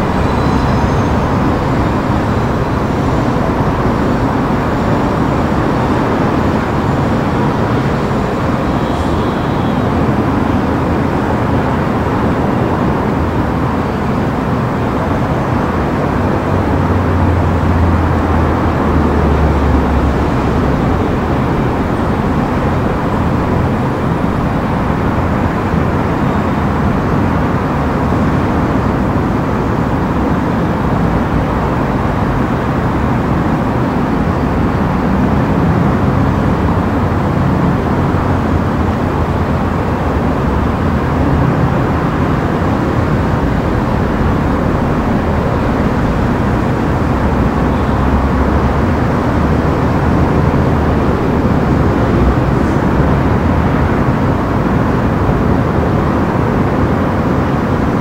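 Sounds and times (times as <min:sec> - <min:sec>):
heavy expressway traffic: 0:00.0 - 0:58.0.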